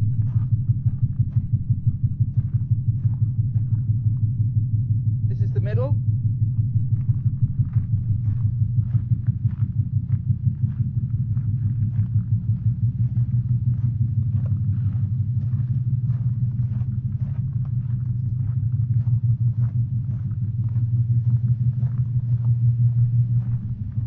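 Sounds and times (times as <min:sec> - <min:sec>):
deep drum beat: 0:00.0 - 0:24.0.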